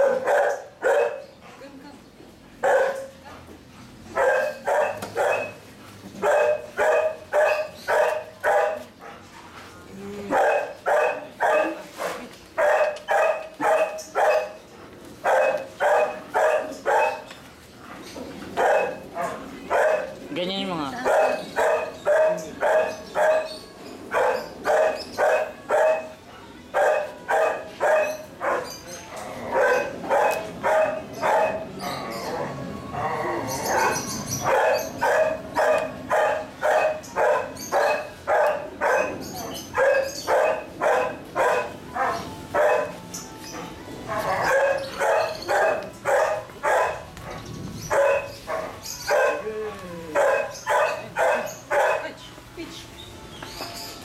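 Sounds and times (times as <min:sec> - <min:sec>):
puppy barking: 0:00.0 - 0:01.3, 0:02.6 - 0:03.2, 0:04.1 - 0:05.6, 0:06.2 - 0:09.2, 0:10.3 - 0:14.6, 0:15.2 - 0:17.3, 0:18.6 - 0:20.2, 0:20.9 - 0:32.0, 0:33.6 - 0:49.5, 0:50.1 - 0:52.2.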